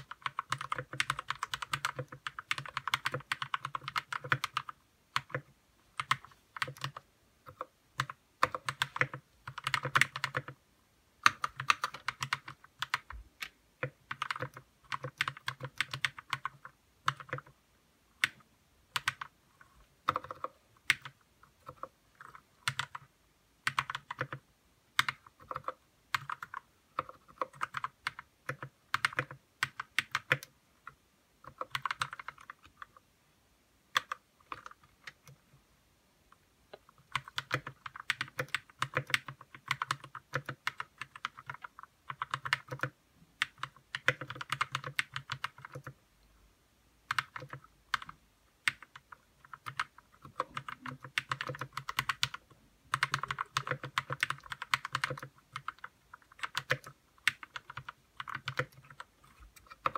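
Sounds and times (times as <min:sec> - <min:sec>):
mechanical keyboard typing: 0:00.0 - 0:10.6, 0:11.2 - 0:17.6, 0:18.2 - 0:33.0, 0:33.9 - 0:35.4, 0:36.3 - 0:46.0, 0:47.0 - 0:59.9.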